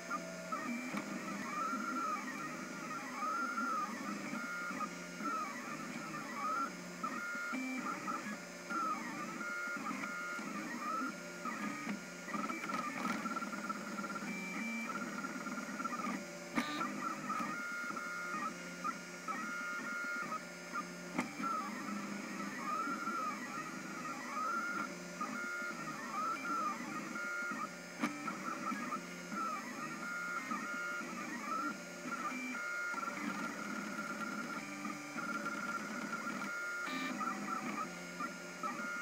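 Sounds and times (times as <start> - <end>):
stepper motors whining: 0.0 - 39.0.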